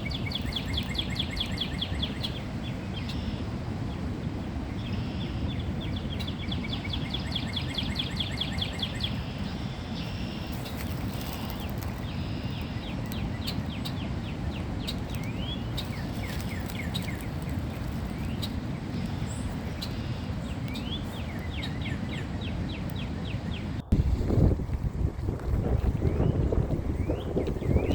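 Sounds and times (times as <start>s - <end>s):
songbirds chirping: 0.0s - 24.0s, 25.7s - 27.9s.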